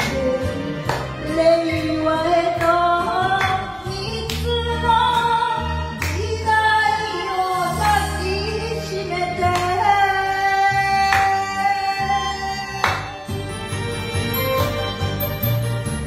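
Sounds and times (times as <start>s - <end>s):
woman singing karaoke: 0.0s - 13.3s
backing track music: 0.0s - 16.0s.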